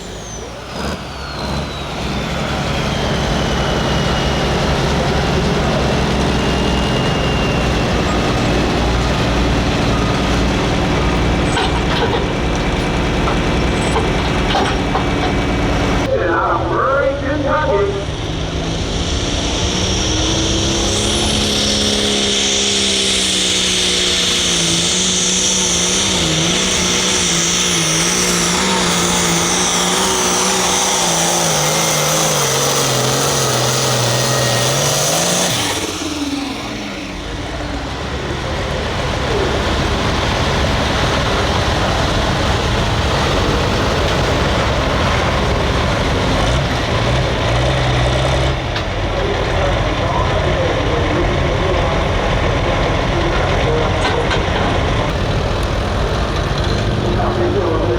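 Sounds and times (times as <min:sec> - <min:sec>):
rough engine sound: 0:00.0 - 0:57.9
tractor diesel engine under load: 0:00.0 - 0:57.9.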